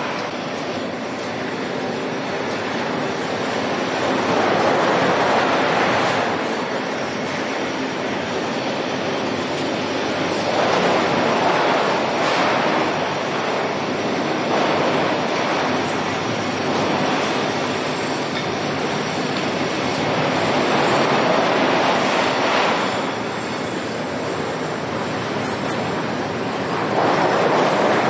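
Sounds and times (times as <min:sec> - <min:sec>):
foundry machinery rumble and clatter: 0:00.0 - 0:28.0.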